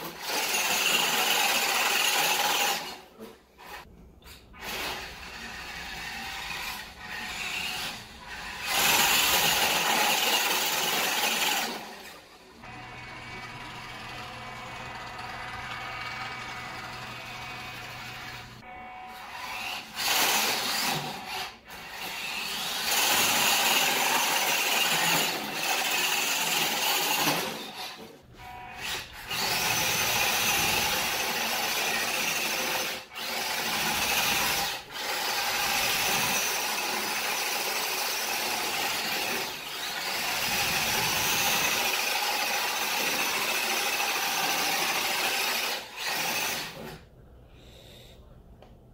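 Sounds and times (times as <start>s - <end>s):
toy truck motor whining: 0.0s - 3.9s, 4.5s - 47.1s.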